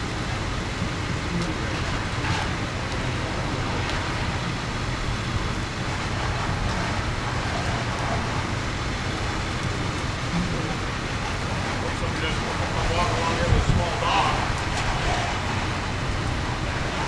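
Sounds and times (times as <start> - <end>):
rain: 0.0 - 17.0
street noise: 0.0 - 17.0
vehicle engine rumbling: 0.0 - 17.0.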